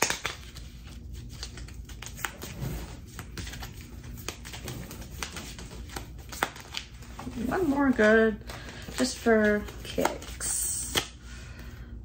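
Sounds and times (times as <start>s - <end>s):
cards being shuffled: 0.0s - 11.2s.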